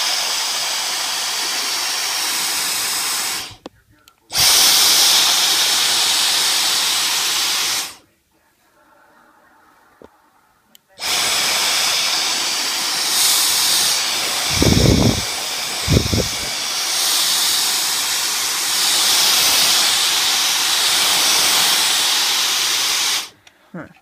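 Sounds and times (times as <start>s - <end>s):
handheld vacuum hissing: 0.0s - 3.7s, 4.3s - 8.0s, 11.0s - 23.4s.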